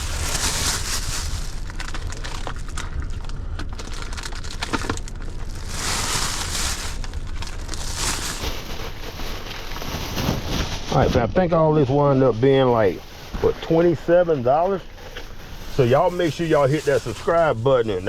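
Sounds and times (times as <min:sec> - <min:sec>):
crinkling and rustling handling: 0:00.0 - 0:18.0
steady low rumble: 0:00.0 - 0:18.0.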